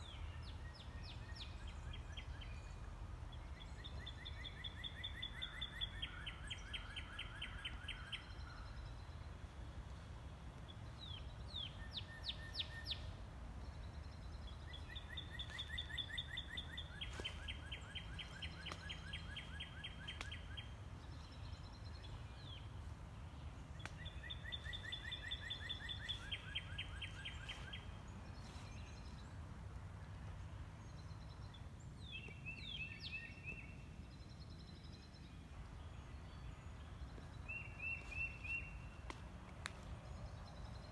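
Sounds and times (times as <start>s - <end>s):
songbirds singing trills: 0.0s - 40.9s.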